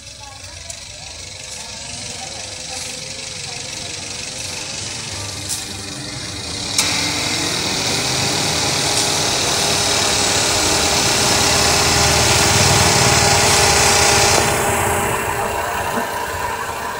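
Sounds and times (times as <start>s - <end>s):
car engine revving: 0.8s - 16.9s.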